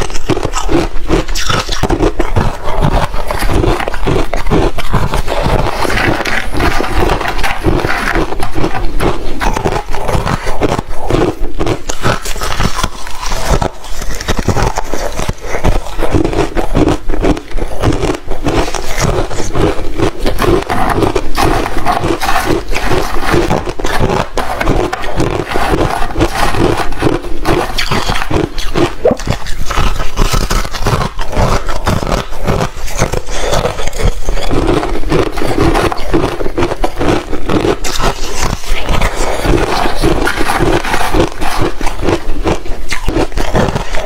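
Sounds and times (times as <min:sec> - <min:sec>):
ice being chewed: 0:00.0 - 0:44.0.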